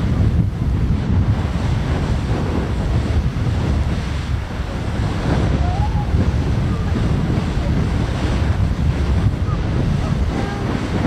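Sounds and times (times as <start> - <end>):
geyser erupting with rushing roar: 0.0 - 11.0.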